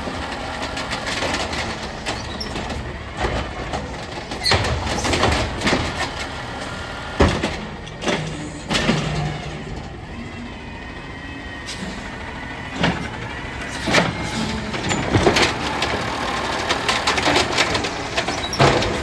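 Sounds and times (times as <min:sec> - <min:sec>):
garbage truck engine running: 0:00.0 - 0:19.0
sharp clanks and bangs: 0:00.9 - 0:10.0, 0:12.7 - 0:19.0.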